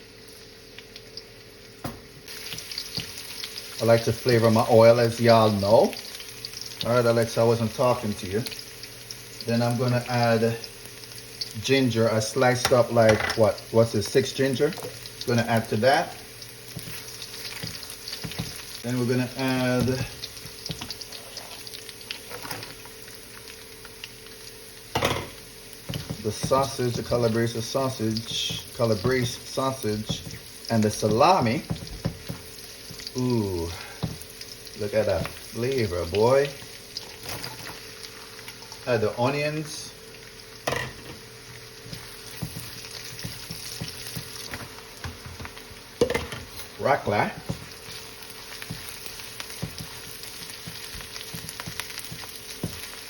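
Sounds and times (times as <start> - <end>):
garlic frying in oil: 0.0 - 53.0.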